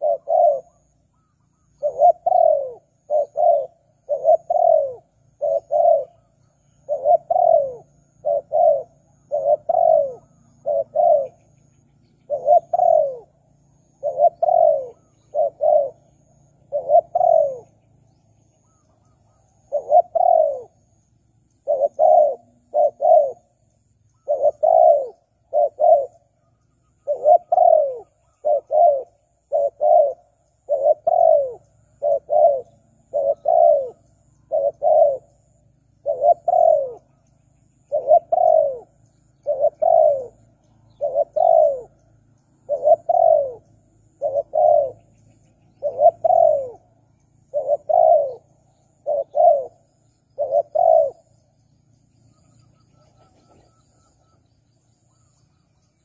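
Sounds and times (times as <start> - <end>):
dove cooing: 0.0 - 21.0, 21.6 - 51.5, 52.3 - 56.0.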